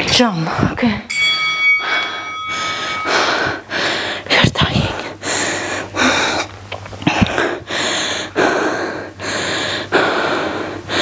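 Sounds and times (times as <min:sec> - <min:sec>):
woman panting: 0:02.0 - 0:11.0.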